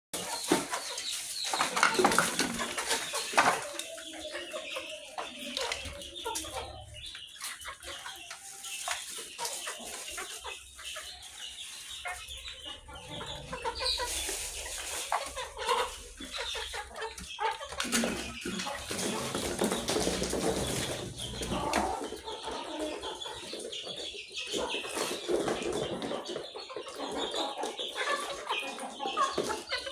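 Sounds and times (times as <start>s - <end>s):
chickens clucking: 0.2s - 29.9s.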